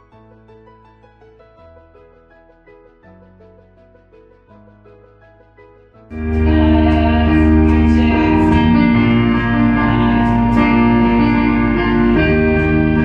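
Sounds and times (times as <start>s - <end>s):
faint music: 0.0s - 13.0s.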